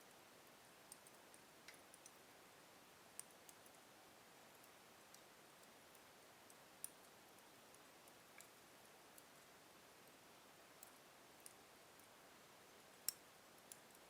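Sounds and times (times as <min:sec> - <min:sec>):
wood fire crackling: 0:00.7 - 0:02.4, 0:03.0 - 0:10.1, 0:10.7 - 0:12.2, 0:12.9 - 0:14.0.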